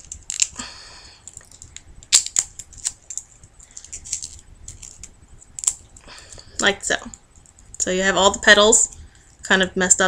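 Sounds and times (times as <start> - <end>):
duct tape crackling and rustling: 0.0 - 9.5.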